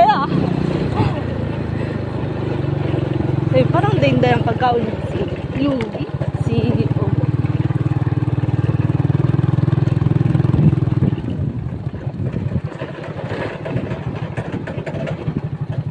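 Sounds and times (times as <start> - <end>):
small motorcycle engine running: 0.0 - 15.9.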